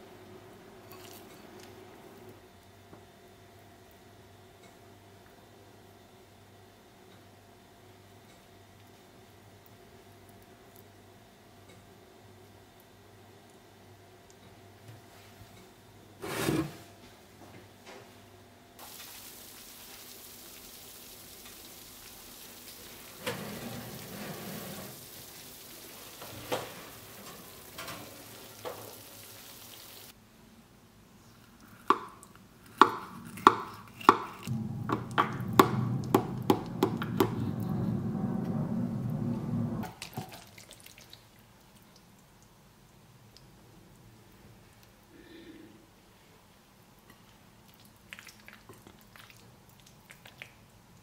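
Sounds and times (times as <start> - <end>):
faint steady hiss: 0.0 - 32.8, 33.8 - 51.0.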